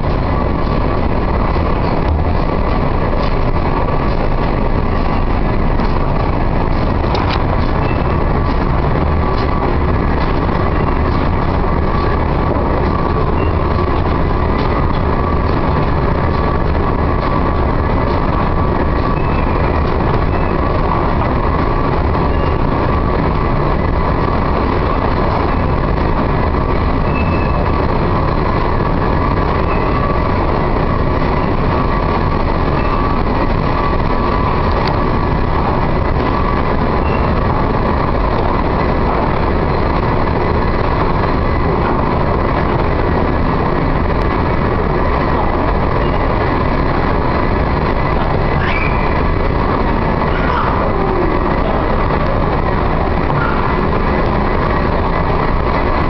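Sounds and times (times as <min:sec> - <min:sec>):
escalator mechanical rumble: 0:00.0 - 0:56.0
faint constant whine: 0:00.0 - 0:56.0.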